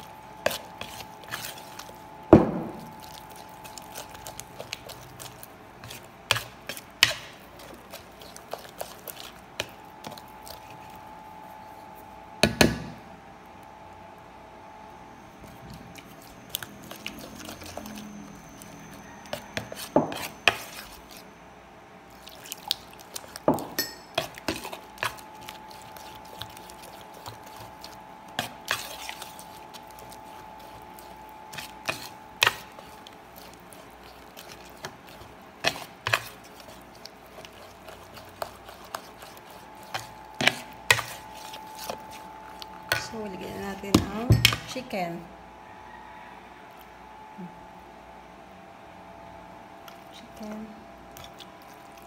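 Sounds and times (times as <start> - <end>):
fork beating batter in bowl: 0.0 - 12.9, 15.4 - 21.3, 22.1 - 45.0, 49.8 - 52.0
faint steady hum: 0.0 - 52.0.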